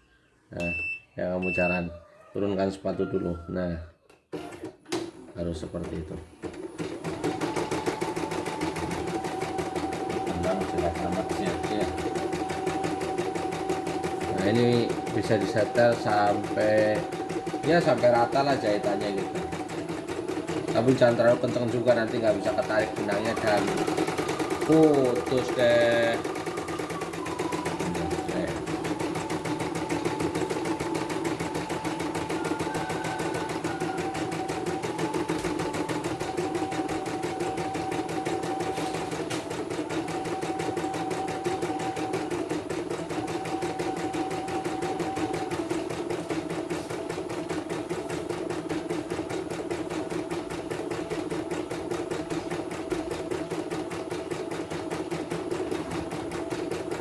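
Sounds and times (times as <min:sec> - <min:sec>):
embroidery machine stitching: 0:04.3 - 0:57.0.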